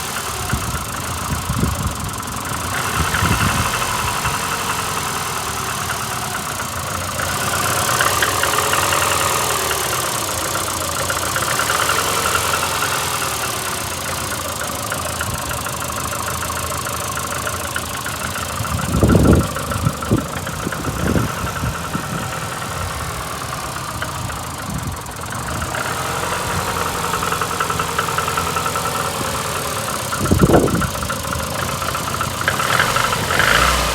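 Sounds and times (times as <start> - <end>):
car engine idling rough with knocking: 0.0 - 33.9.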